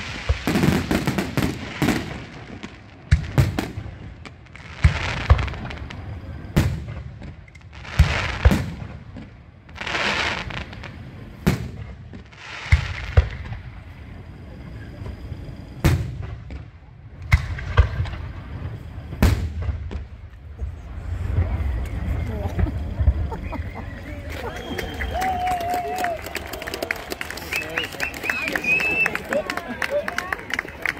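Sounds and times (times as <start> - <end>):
fireworks hissing bursts: 0.0 - 25.2
fireworks bangs: 0.0 - 30.9.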